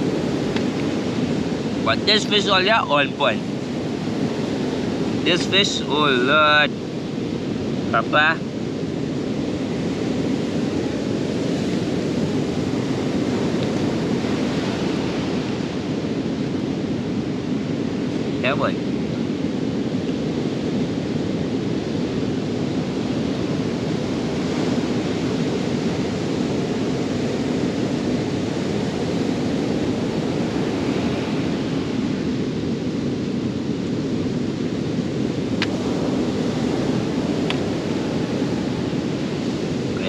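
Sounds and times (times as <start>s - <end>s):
surf at the shore: 0.0s - 40.0s
wind rumbling on microphone: 0.0s - 40.0s.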